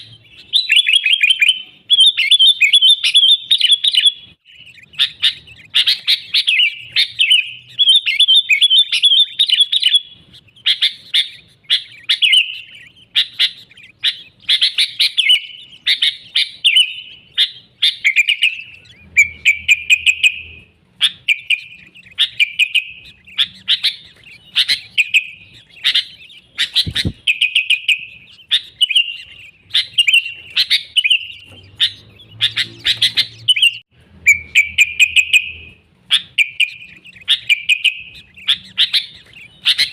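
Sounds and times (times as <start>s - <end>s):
bird bubbling song: 0.0s - 39.9s.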